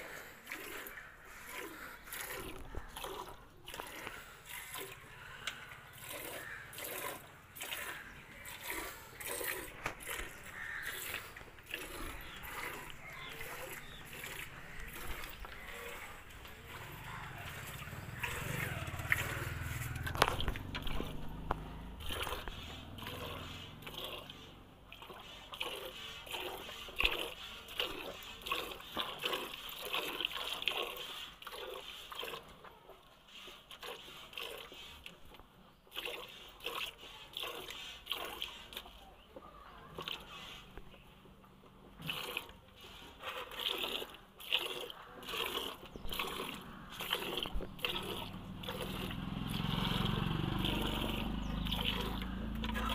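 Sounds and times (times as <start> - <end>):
milk squirting into bucket: 0.0 - 52.9.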